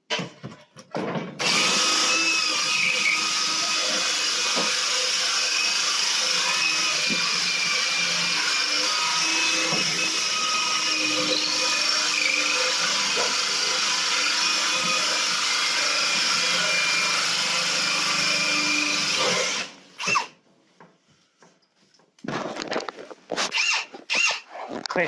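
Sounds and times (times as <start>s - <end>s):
power drill cutting through tile: 1.4s - 20.4s, 23.3s - 24.5s.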